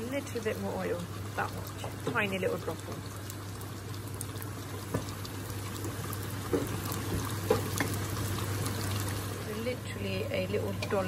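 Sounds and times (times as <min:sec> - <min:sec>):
chickpeas sizzling in a pan: 0:00.0 - 0:11.0.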